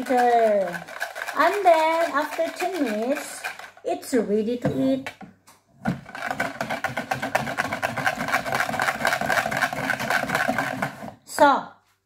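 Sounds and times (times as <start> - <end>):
whisk clattering in plastic jug: 0.0 - 5.1, 5.8 - 11.2.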